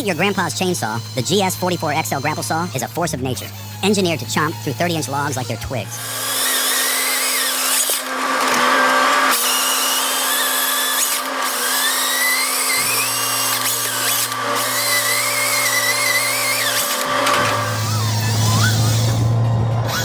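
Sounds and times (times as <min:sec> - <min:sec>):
chainsaw cutting logs whine: 0:00.0 - 0:20.0.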